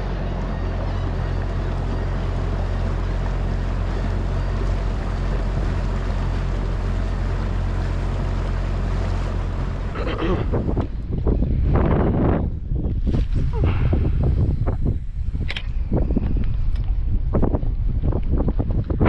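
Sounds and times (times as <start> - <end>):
boat motor running: 0.0 - 19.0
water noise: 0.0 - 19.0
wind: 0.0 - 19.0.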